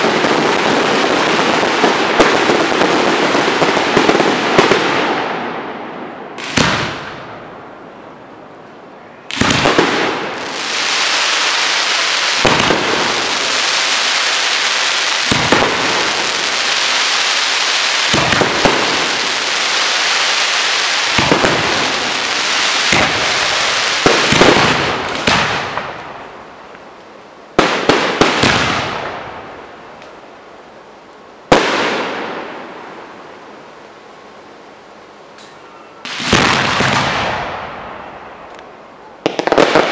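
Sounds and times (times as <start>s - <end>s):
fireworks bangs and crackle: 0.0s - 7.8s, 9.3s - 30.2s, 31.4s - 33.3s, 35.4s - 39.9s.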